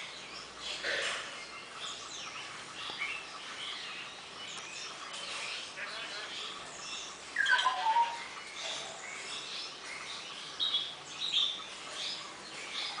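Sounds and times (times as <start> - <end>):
birds calling: 0.0 - 13.0
faint bird chirping: 0.0 - 13.0.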